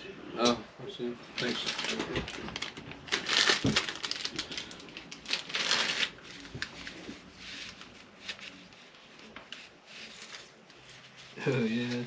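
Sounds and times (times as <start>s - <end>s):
plastic wipes packet crinkling: 1.3s - 12.0s.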